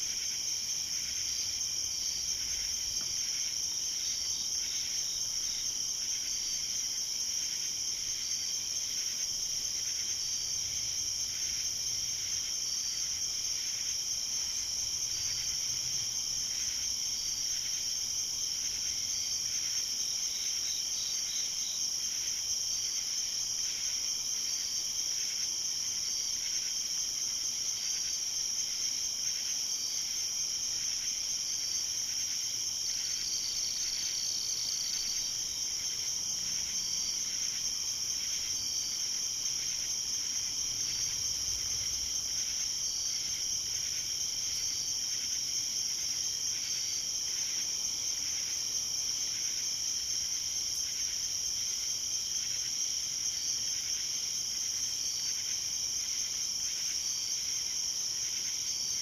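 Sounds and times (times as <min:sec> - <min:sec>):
crickets trilling: 0:00.0 - 0:59.0
soft insect chirp: 0:00.0 - 0:59.0.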